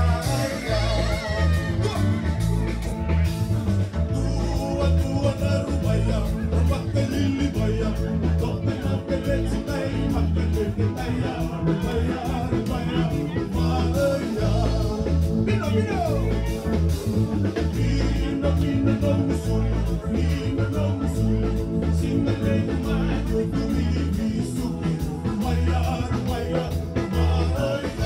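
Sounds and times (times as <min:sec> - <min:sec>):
man singing into microphone: 0:00.0 - 0:02.5, 0:04.1 - 0:28.0
bass guitar: 0:00.0 - 0:28.0
drums: 0:00.0 - 0:28.0
electric guitar: 0:00.0 - 0:28.0.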